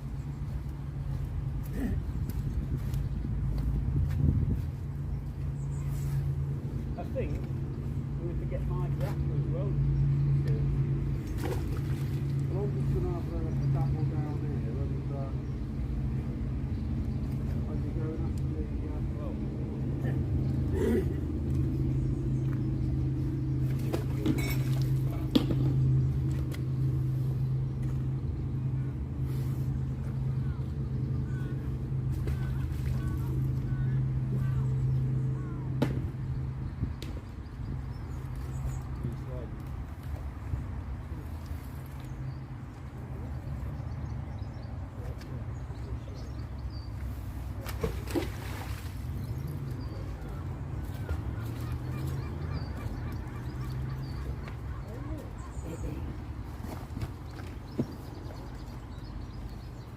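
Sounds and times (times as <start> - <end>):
low engine hum: 0.0 - 59.9
steady low rumble: 0.0 - 59.9.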